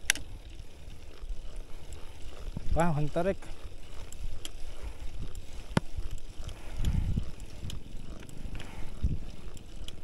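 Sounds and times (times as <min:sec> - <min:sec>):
bike clicks and knocks: 0:00.0 - 0:10.0
low rumble of bike ride: 0:00.0 - 0:10.0.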